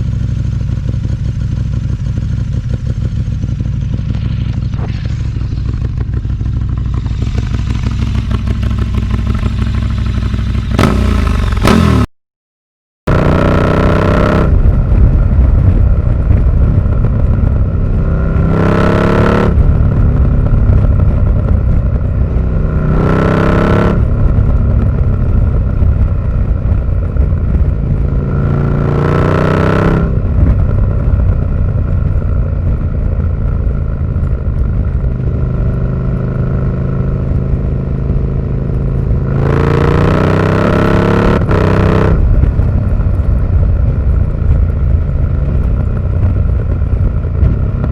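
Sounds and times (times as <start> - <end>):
motorcycle engine idling and revving: 0.0 - 12.1, 13.1 - 47.9.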